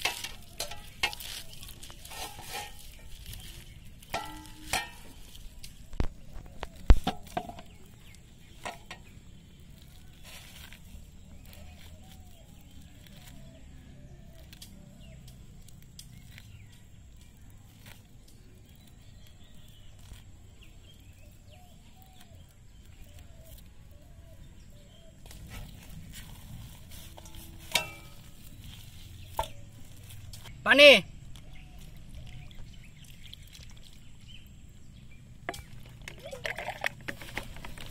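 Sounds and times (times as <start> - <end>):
hands squeezing pulpy fruit: 0.0 - 30.5, 35.4 - 37.9
low outdoor rumble: 0.0 - 37.9.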